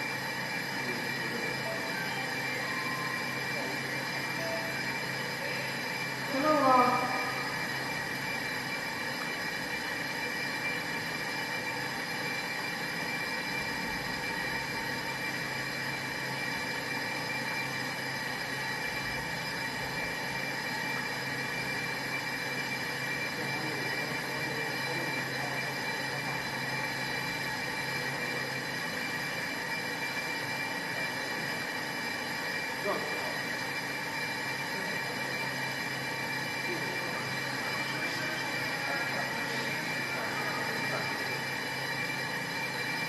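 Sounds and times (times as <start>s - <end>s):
lathe mechanical whine: 0.0s - 43.0s.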